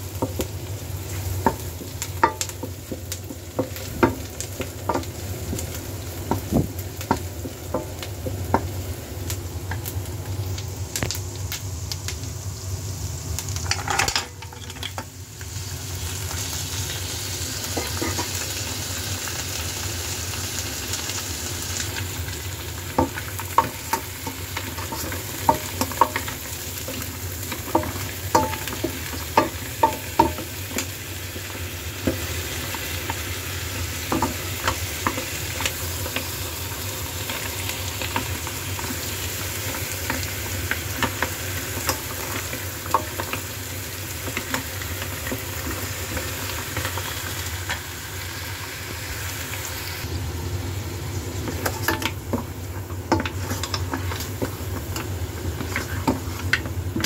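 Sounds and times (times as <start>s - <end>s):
onion sizzling in oil: 0.0s - 57.0s.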